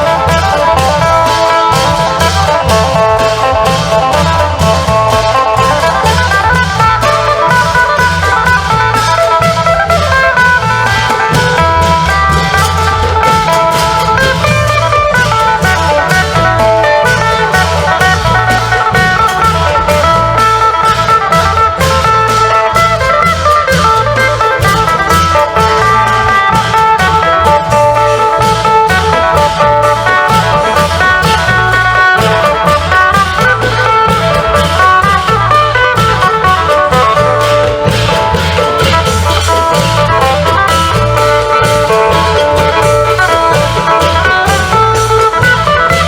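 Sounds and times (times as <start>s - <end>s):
long drums and percussion: 0.0s - 46.0s
plucked lute melody: 0.0s - 46.0s.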